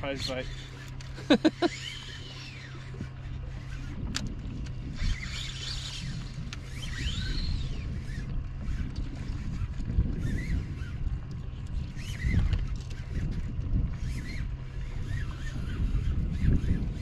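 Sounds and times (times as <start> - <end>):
steady low hum: 0.0 - 17.0
wind rumbling on microphone: 0.0 - 17.0.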